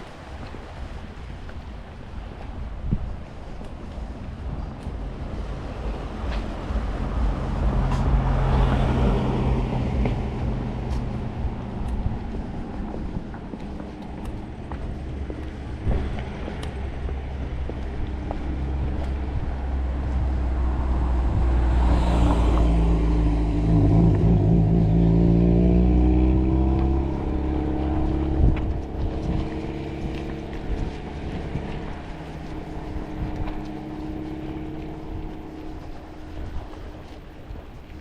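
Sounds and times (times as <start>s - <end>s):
car engine passing by: 0.0s - 38.0s.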